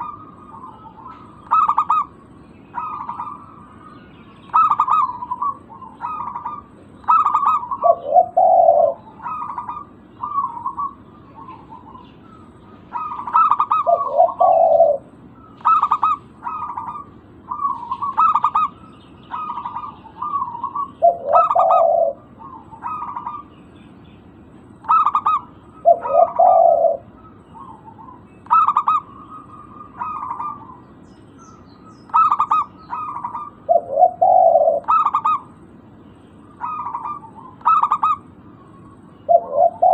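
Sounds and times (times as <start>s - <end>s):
dove cooing: 0.0s - 3.9s, 4.5s - 23.5s, 24.7s - 31.0s, 31.8s - 35.7s, 36.4s - 39.9s.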